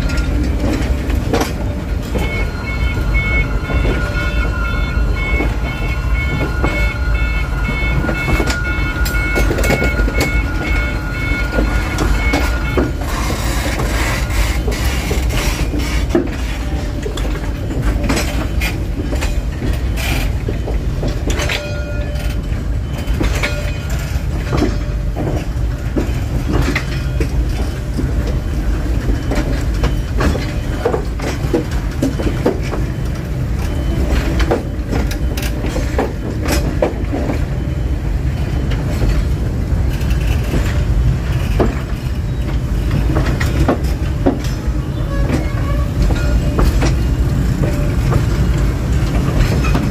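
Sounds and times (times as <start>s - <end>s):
train rolling rumble: 0.0s - 49.9s
wheels clacking over rail joints: 0.0s - 49.9s.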